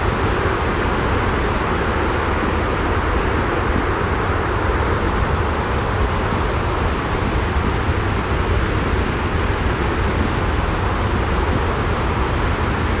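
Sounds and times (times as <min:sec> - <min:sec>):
white-noise rumble with hiss: 0:00.0 - 0:13.0.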